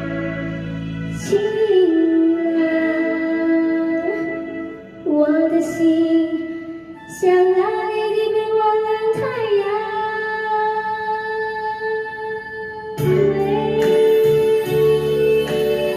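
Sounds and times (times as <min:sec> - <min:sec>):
musical accompaniment: 0:00.0 - 0:15.9.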